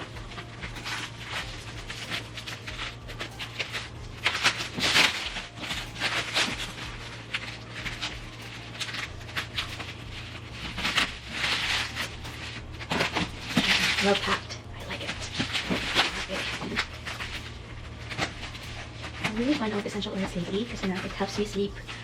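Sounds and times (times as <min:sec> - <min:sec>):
cardboard and tape tearing: 0:00.0 - 0:22.0
low steady hum: 0:00.0 - 0:22.0.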